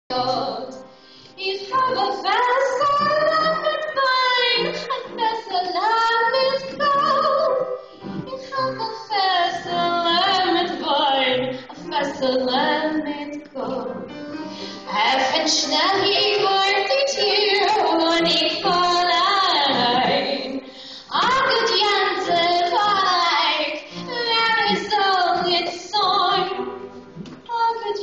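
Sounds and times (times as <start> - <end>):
woman singing into microphone: 1.4 - 14.1, 14.8 - 26.7, 27.5 - 28.0.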